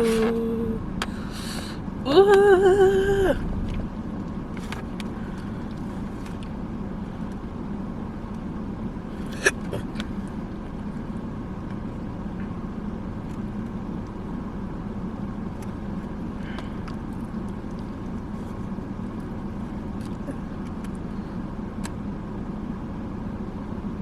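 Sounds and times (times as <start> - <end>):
car engine hum inside cabin: 0.0 - 24.0.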